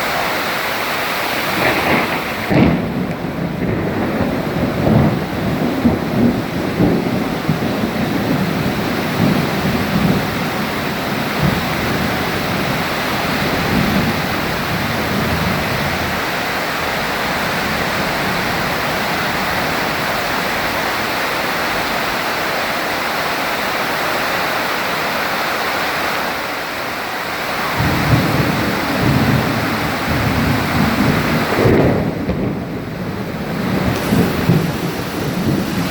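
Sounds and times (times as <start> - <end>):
thunder rumbling: 0.0 - 23.2, 27.3 - 35.9
heavy rain falling: 0.0 - 35.9.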